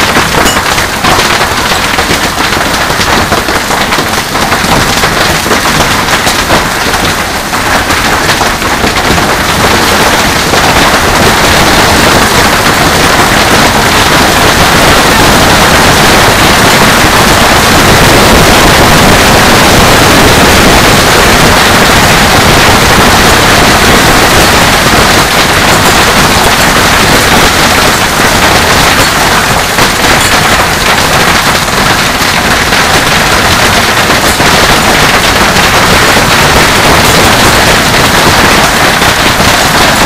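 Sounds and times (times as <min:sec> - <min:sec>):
heavy hail clattering: 0:00.0 - 0:40.0.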